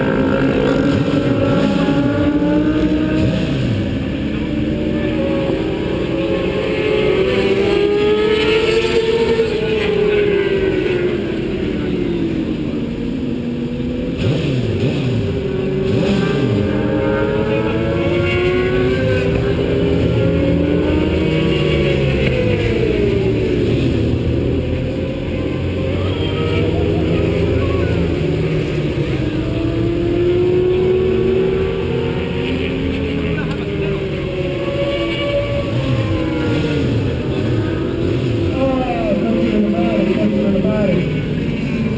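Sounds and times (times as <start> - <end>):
race car engine accelerating: 0.0 - 41.9
wind and road noise: 0.0 - 41.9.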